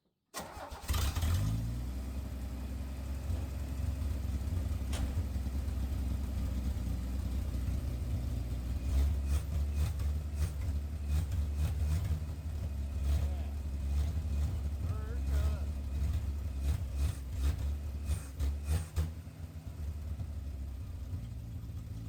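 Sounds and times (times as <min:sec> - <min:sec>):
truck engine idling: 0:01.5 - 0:22.0.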